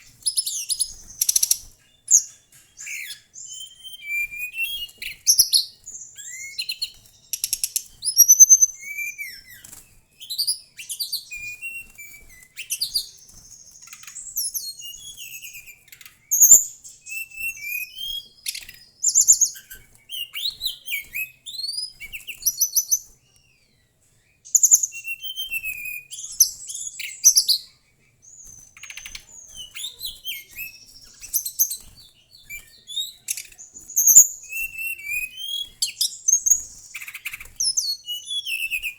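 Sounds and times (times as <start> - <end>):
bird singing whistled trills: 0.0 - 38.9.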